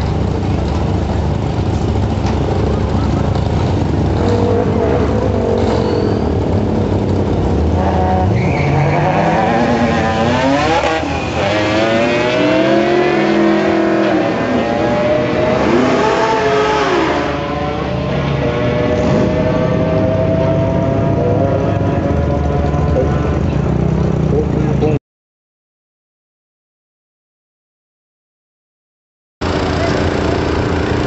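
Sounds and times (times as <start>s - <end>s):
racing car engines accelerating: 0.0s - 25.0s.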